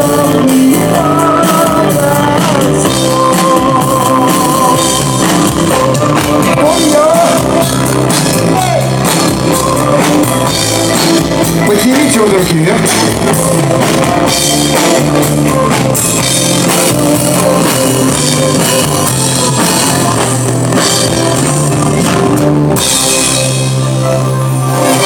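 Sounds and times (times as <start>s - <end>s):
drum kit: 0.0s - 25.0s
pop-rock band playing: 0.0s - 25.0s.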